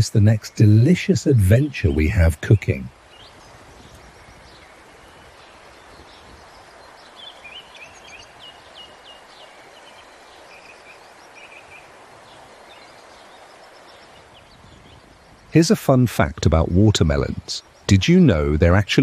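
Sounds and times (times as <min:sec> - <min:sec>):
small birds chirping: 0:00.0 - 0:19.0
steady soft hiss: 0:00.0 - 0:19.0.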